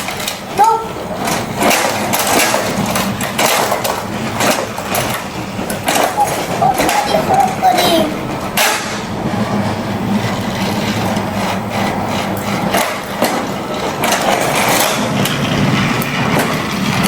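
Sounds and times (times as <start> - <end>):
toy train motor whirring: 0.0 - 17.0.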